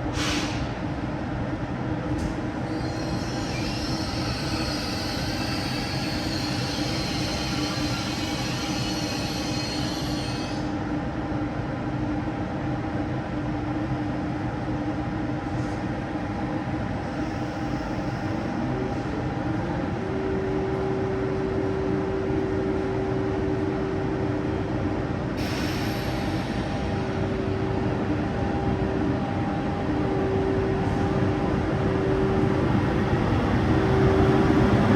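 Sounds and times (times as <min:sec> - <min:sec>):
high-speed train rumbling: 0:00.0 - 0:34.9.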